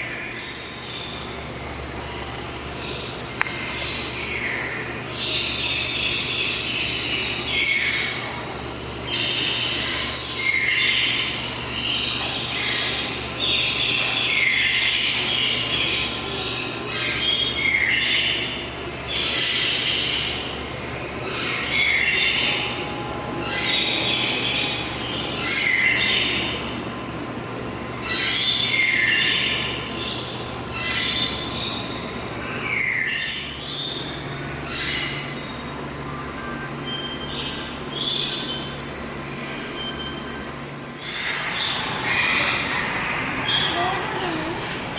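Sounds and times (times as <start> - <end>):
birds screeching: 0.0 - 26.8, 27.7 - 44.9.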